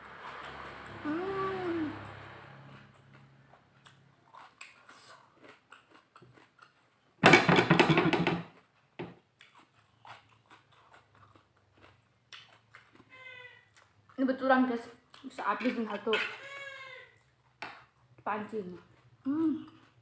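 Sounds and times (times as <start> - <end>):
close chewing and crunching: 2.6 - 7.2, 8.5 - 20.0.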